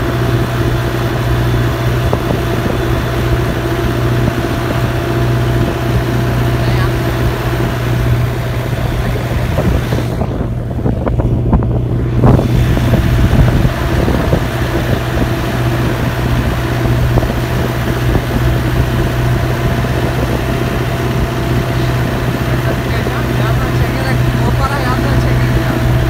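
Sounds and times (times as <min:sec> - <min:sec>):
tractor diesel engine under load: 0:00.0 - 0:26.0
wind buffeting microphone: 0:00.0 - 0:26.0.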